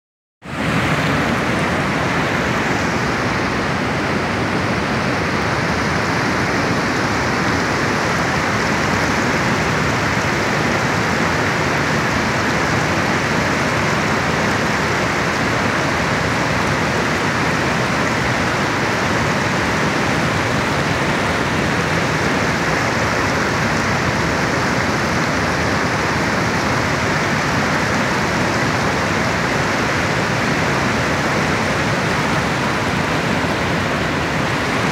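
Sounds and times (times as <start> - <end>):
river rapids rushing over boulders: 0.5 - 34.9.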